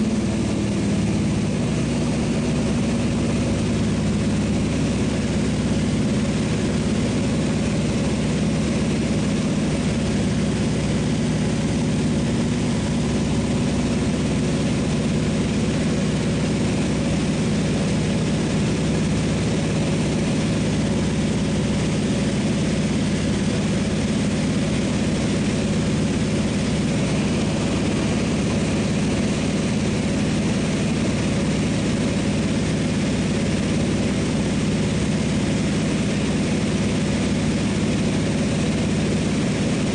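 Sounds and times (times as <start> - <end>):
propeller engine running: 0.0 - 39.9.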